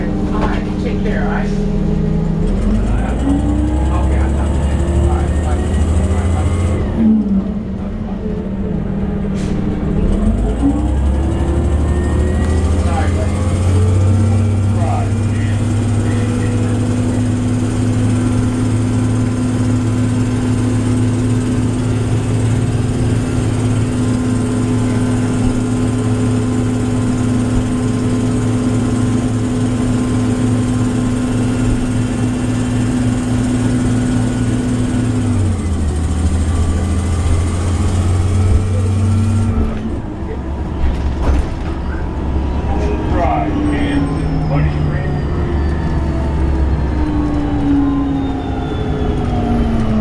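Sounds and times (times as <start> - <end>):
bus engine running: 0.0 - 50.0.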